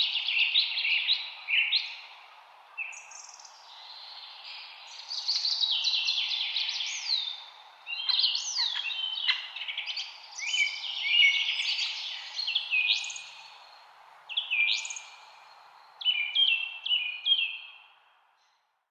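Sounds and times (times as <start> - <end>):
songbirds singing and chirping: 0.0 - 18.6
faint background hiss: 0.0 - 18.9.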